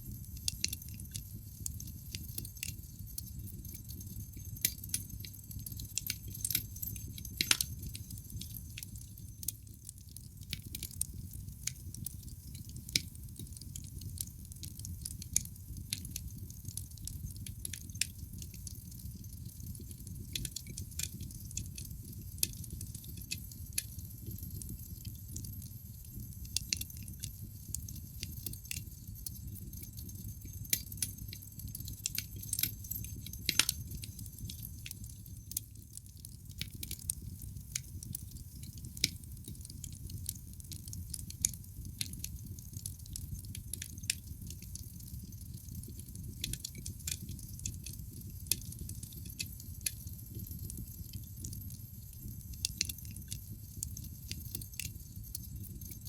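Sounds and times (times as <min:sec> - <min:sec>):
low rumble of burning logs: 0:00.0 - 0:56.0
wood fire crackling: 0:00.1 - 0:56.0.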